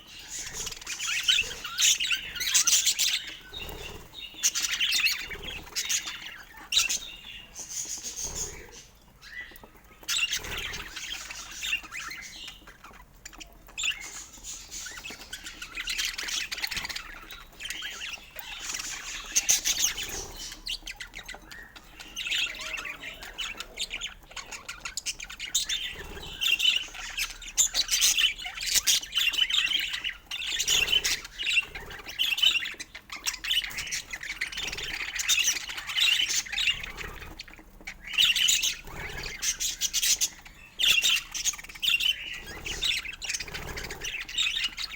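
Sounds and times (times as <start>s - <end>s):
budgerigars chirping: 0.0s - 44.9s.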